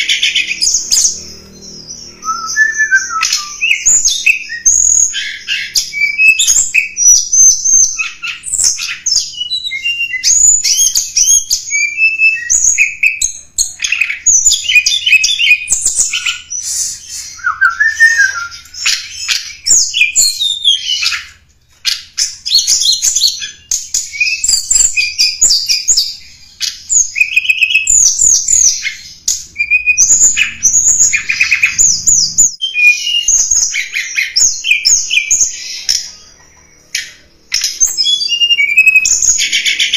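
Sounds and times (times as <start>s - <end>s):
bird chirps whistles and trills: 0.0s - 39.9s.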